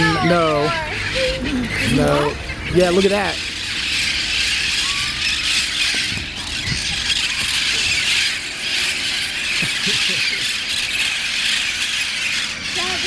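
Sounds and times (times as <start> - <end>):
parrots screeching and squawking: 0.0 - 13.0.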